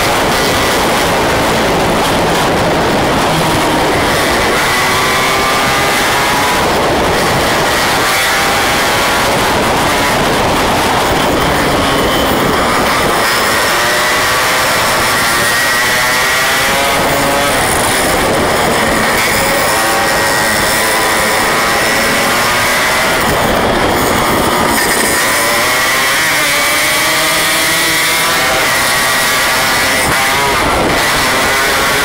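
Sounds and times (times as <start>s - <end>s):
other motorcycles riding alongside: 0.0s - 32.0s
two-stroke motorcycle engine revving: 0.0s - 32.0s.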